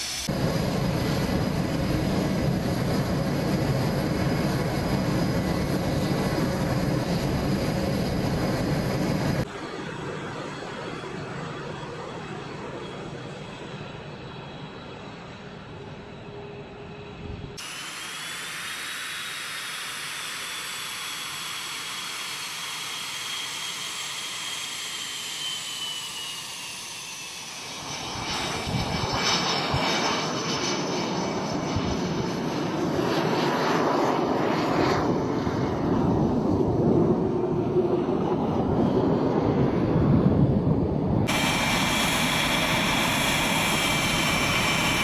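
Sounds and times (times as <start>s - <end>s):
jet engine roar: 0.0s - 45.0s
jet turbine whine: 0.0s - 45.0s.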